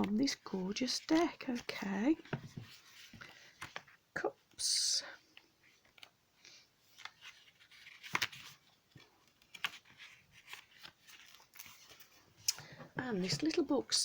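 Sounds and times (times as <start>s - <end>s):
paper pages rustling: 0.0s - 4.0s, 5.4s - 6.2s, 6.8s - 14.0s.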